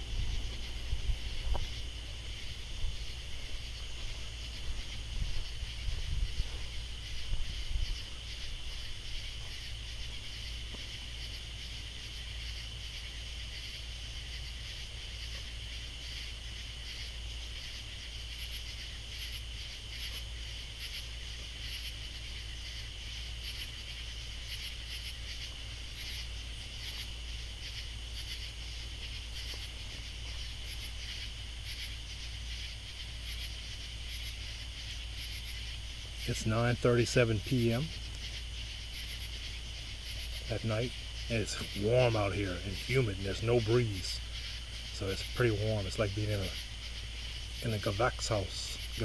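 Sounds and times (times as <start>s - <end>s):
insects droning: 0.0s - 49.0s
katydids chirping: 0.0s - 49.0s
low steady hum: 0.0s - 49.0s.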